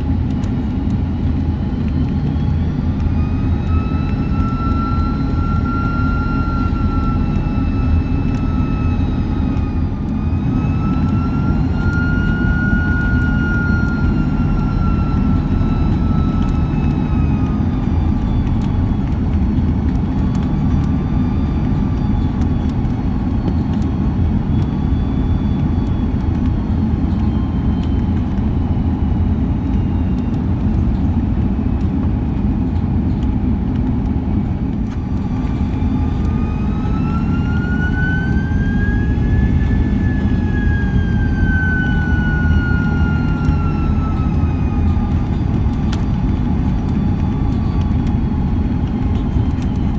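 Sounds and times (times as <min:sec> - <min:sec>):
cabin and airflow rumble: 0:00.0 - 0:49.9
jet engines whining: 0:00.0 - 0:49.9.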